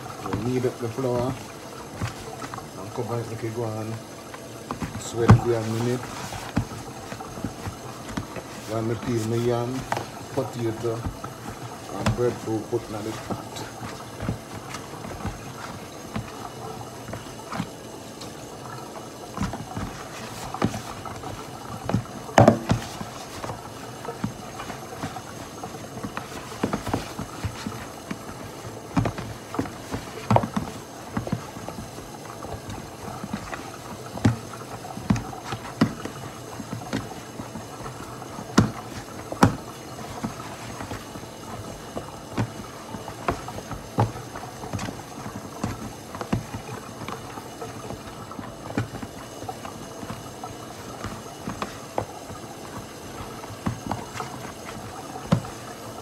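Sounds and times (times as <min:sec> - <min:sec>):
hand kneading dough in plastic tub: 0:00.0 - 0:56.0.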